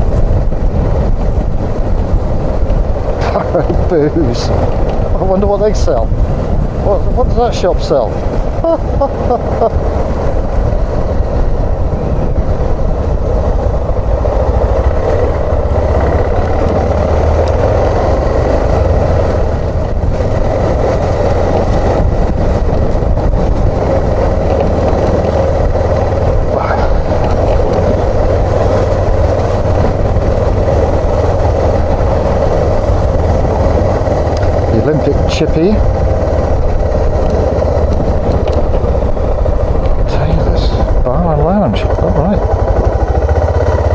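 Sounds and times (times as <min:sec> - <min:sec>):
motorcycle engine cruising: 0:00.0 - 0:43.9
wind and road noise: 0:00.0 - 0:43.9.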